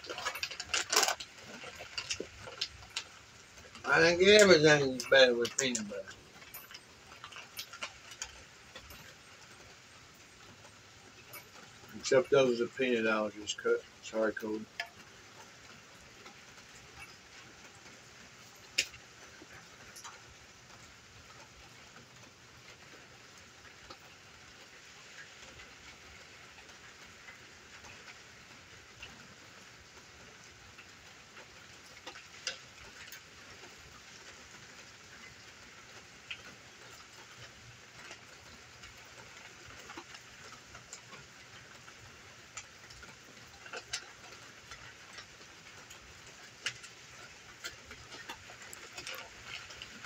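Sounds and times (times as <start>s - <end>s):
light rain hiss: 0.0s - 50.0s
raindrops ticking: 0.0s - 50.0s.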